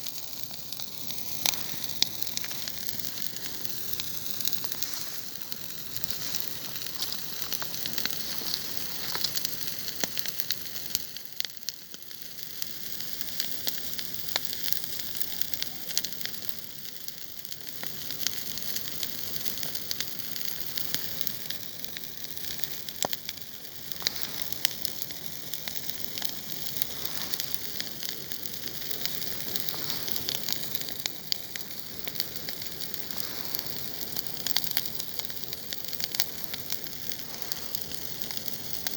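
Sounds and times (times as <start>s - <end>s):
bonfire crackling and hissing: 0.0s - 38.9s.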